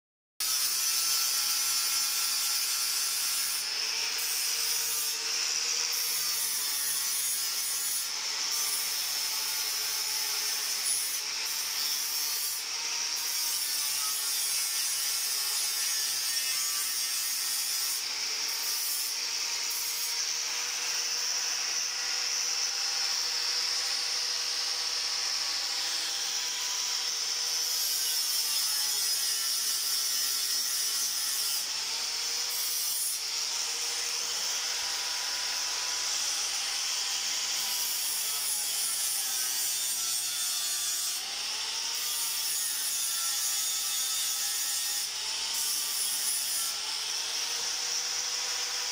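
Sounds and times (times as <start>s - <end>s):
angle grinder grinding metal: 0.4s - 48.9s.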